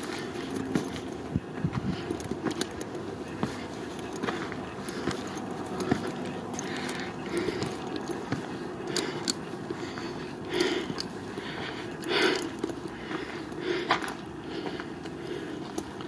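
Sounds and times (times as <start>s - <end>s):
footsteps crunching on gravel: 0.0s - 16.0s
outdoor background noise: 0.0s - 16.0s.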